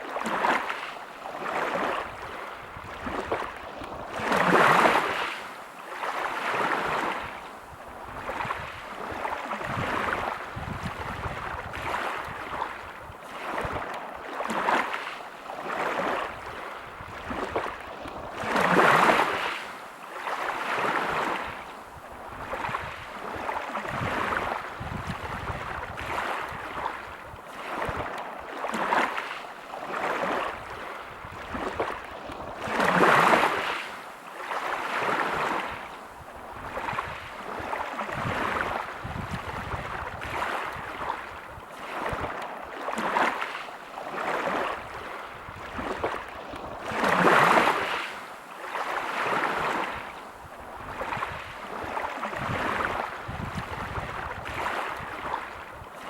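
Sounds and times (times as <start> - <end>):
waves washing over pebbles: 0.0 - 56.0.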